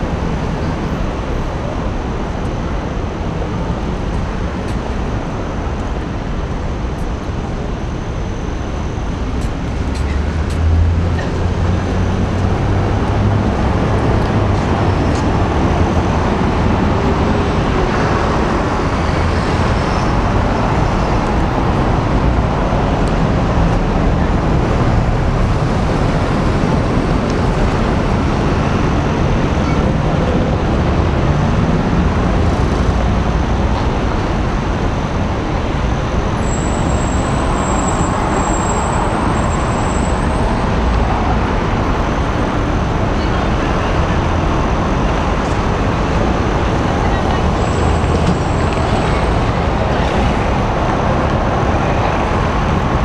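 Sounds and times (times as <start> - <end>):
cars passing on busy road: 0.0 - 53.0.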